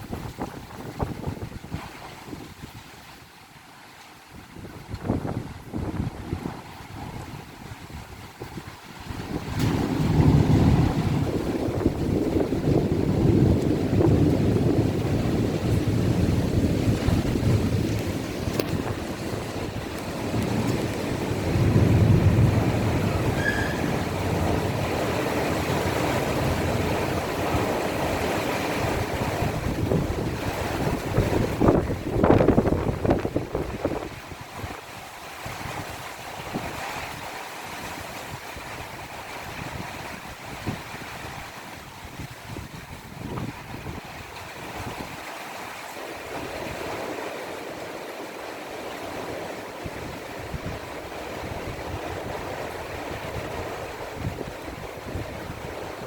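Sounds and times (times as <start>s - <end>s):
wind buffeting microphone: 0.0s - 3.4s, 4.2s - 56.0s
heavy rain pouring: 0.0s - 56.0s.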